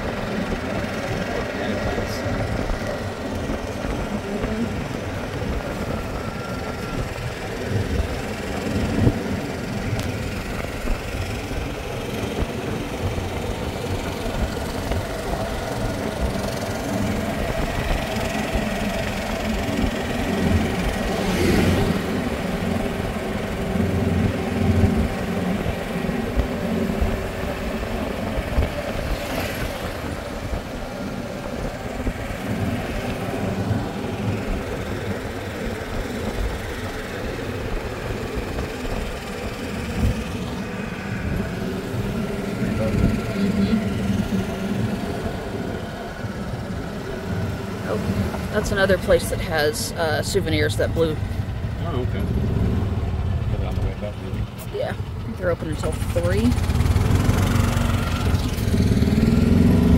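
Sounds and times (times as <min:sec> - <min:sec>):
golf cart motor hum: 0:00.0 - 0:59.9
road and wind noise: 0:00.0 - 0:59.9.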